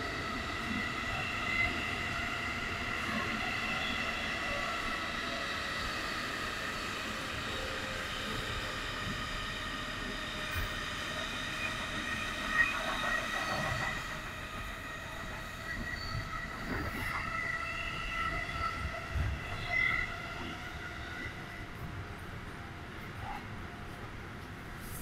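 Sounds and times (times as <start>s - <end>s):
high steady whining tones: 0.0s - 22.0s
train wheels rumbling on rails: 0.0s - 25.0s.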